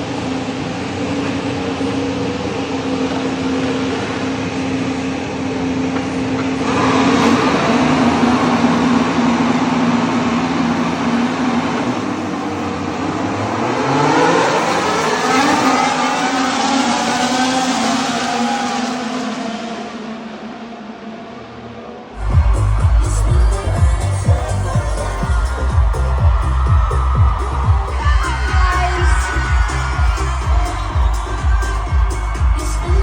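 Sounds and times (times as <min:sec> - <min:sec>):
vehicle engine accelerating: 0:00.0 - 0:33.0.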